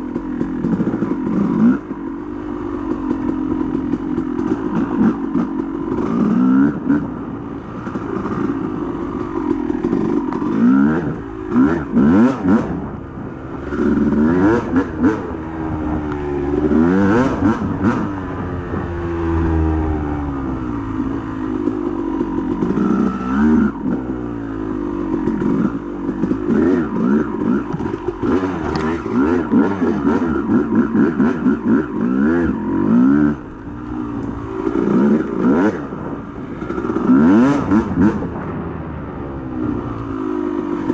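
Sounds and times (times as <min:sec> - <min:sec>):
dirt bike engine revving: 0:00.0 - 0:38.6.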